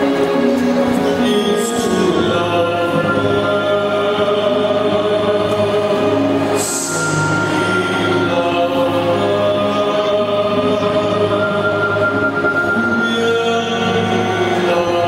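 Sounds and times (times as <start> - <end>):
choral music over loudspeakers: 0.0 - 15.0.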